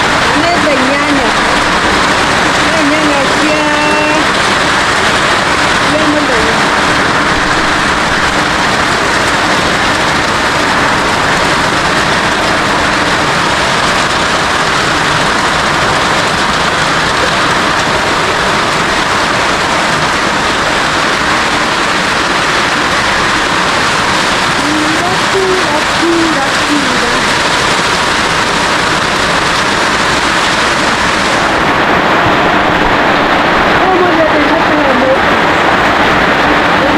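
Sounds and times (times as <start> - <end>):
heavy rain on a roof: 0.0 - 36.9.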